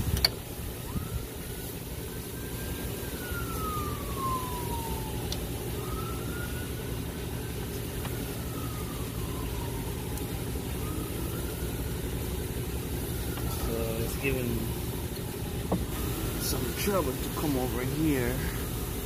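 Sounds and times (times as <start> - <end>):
distant siren wailing: 0.0 - 19.0.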